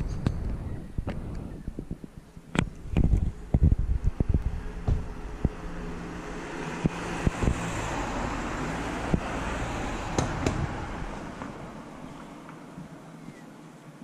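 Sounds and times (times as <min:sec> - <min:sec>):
wind thumping on microphone: 0:00.0 - 0:12.2
road traffic passing: 0:00.0 - 0:14.0.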